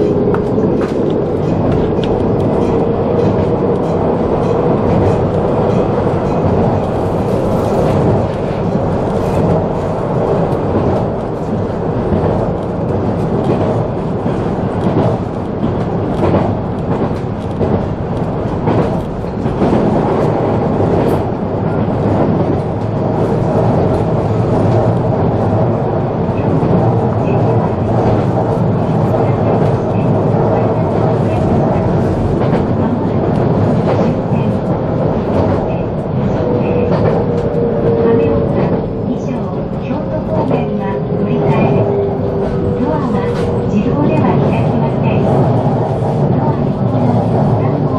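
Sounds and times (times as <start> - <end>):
track clacks: 0.0 - 47.9
train hum: 0.0 - 47.9
train wheels rumbling on rail: 0.0 - 47.9.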